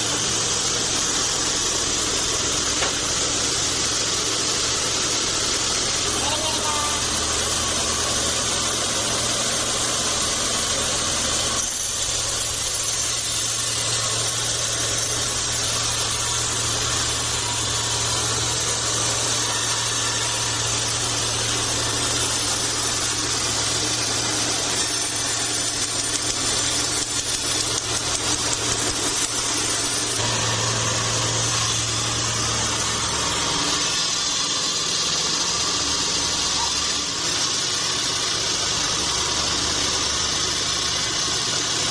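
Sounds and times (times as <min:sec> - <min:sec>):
band sawmill running: 0:00.0 - 0:41.9.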